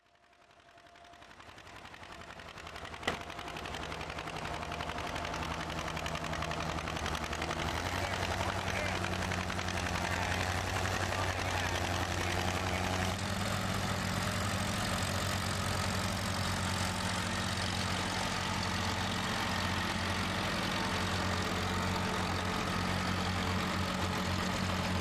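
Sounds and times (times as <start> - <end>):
tractor engines running: 0.1 - 25.0.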